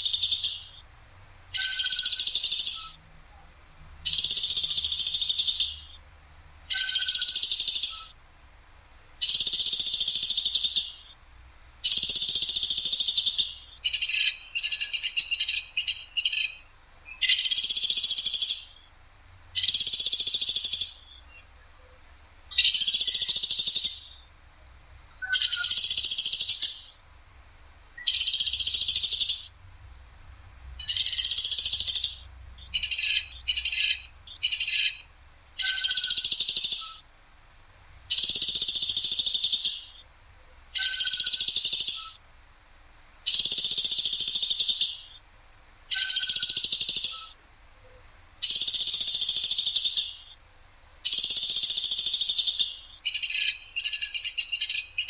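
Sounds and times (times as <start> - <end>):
woodpecker rattle calls: 0.0 - 0.9, 1.5 - 3.0, 3.8 - 8.2, 8.9 - 18.9, 19.6 - 24.3, 25.1 - 27.0, 28.0 - 29.6, 30.8 - 37.1, 37.8 - 42.3, 43.0 - 45.3, 45.9 - 55.0.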